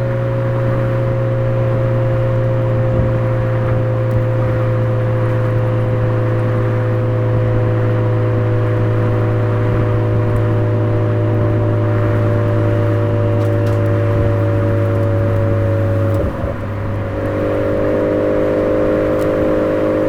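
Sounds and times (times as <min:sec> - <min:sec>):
car engine droning steadily: 0:00.0 - 0:20.0.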